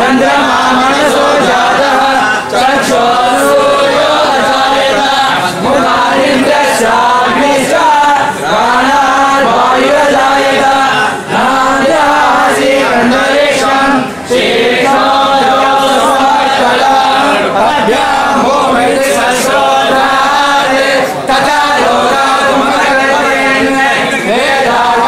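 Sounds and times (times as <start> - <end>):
men chanting hymns in unison: 0.0 - 25.0.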